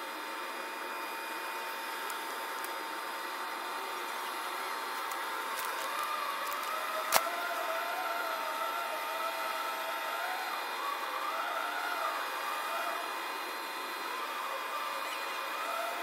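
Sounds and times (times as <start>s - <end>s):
machine whining drone: 0.0s - 16.0s.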